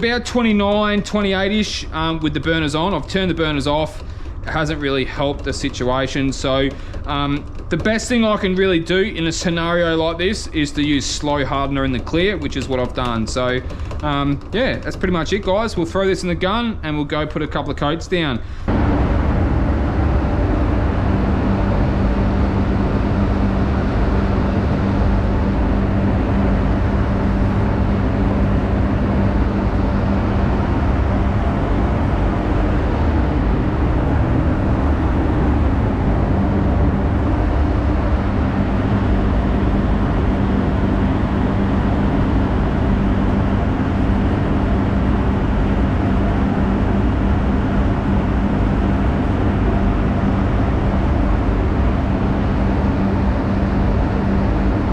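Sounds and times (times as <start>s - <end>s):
ventilation fans rushing air: 0.0s - 54.9s.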